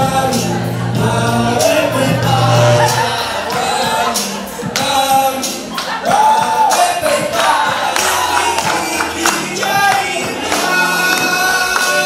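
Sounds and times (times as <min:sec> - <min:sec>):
music with singing: 0:00.0 - 0:12.0
sharp percussion beat: 0:00.0 - 0:12.0.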